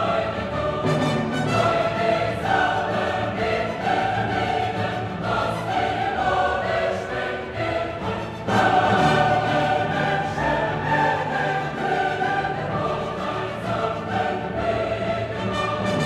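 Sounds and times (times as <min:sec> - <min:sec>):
choir singing long notes: 0:00.0 - 0:16.0
orchestral accompaniment: 0:00.0 - 0:16.0.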